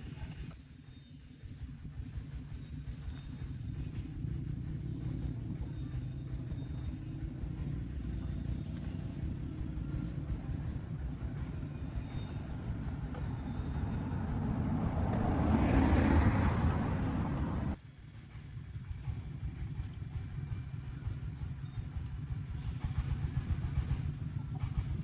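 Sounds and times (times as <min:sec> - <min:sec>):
engine rumbling: 0:00.0 - 0:25.0.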